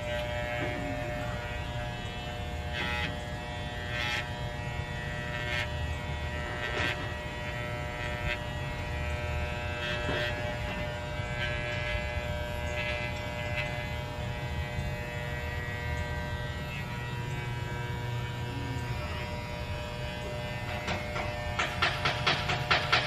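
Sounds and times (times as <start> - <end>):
electric clippers buzzing: 0.0 - 23.0.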